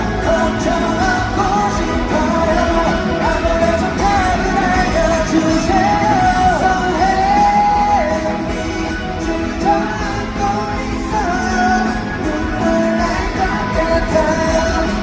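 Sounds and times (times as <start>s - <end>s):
lead vocal singing: 0.0s - 15.0s
live pop-rock band: 0.0s - 15.0s.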